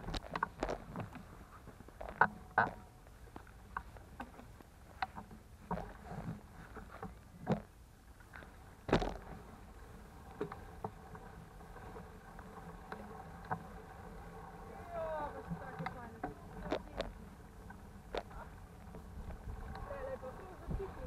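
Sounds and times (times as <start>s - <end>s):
bike rattling on bumpy path: 0.0s - 21.0s.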